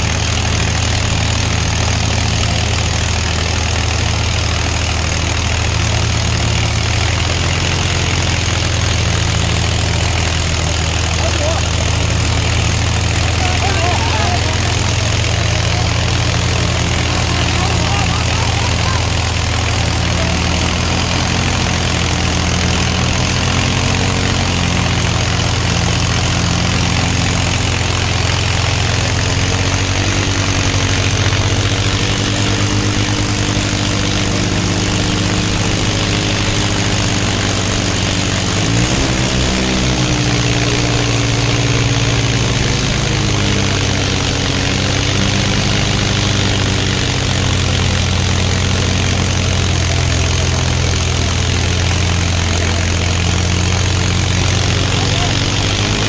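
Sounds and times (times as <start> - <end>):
diesel tractor engines running: 0.0 - 56.0.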